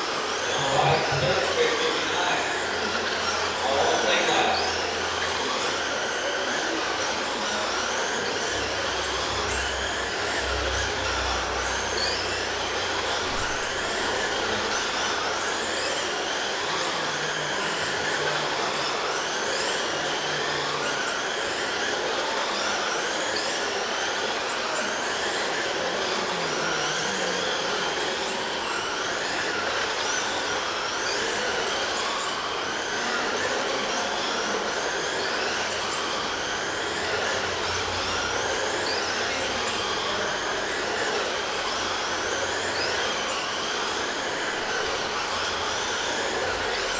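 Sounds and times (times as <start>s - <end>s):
rc truck motors whining: 0.0s - 46.9s.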